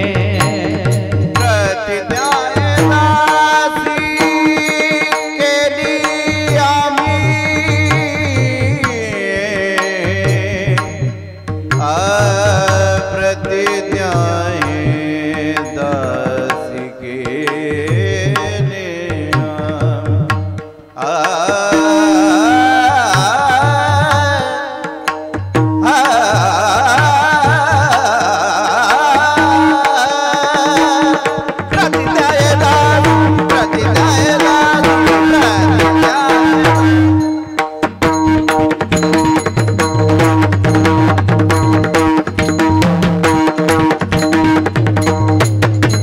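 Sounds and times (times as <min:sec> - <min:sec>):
person singing ornamented melody: 0:00.0 - 0:20.0, 0:21.0 - 0:25.1, 0:25.8 - 0:41.0
hand drum rhythm: 0:00.0 - 0:46.0.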